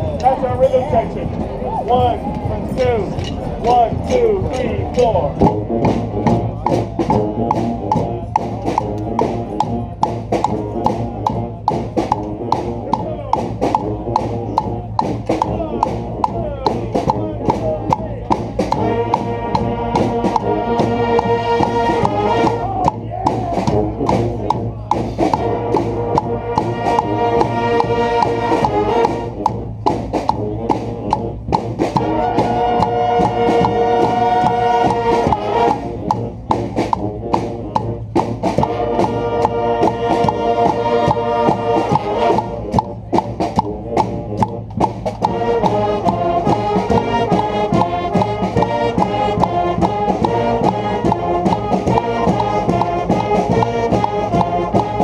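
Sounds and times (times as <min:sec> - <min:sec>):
brass band horns playing chords: 0:00.0 - 0:55.0
drum hits: 0:00.1 - 0:55.0.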